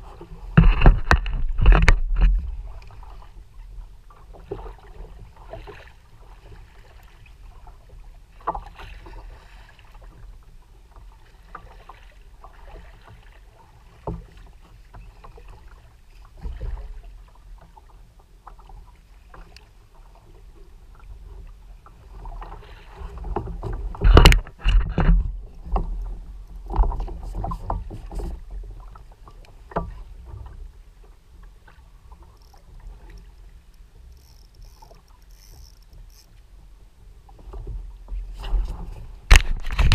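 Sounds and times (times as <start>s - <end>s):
water lapping against plastic hull: 0.0s - 39.9s.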